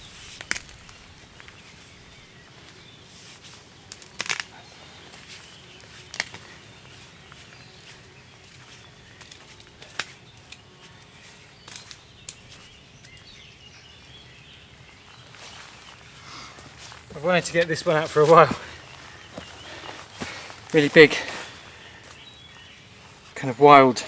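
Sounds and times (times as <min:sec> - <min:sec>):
faint bird calls: 0:00.0 - 0:24.0.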